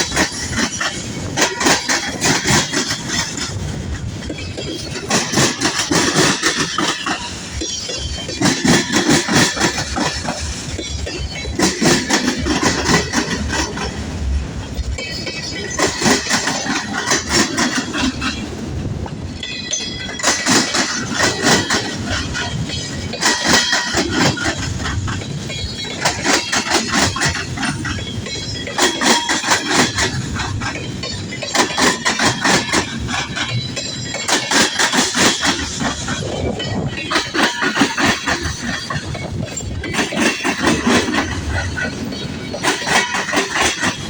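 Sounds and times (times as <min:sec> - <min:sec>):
freight train rumble: 0:00.0 - 0:44.0
wheels clacking over rail joints: 0:00.0 - 0:44.0.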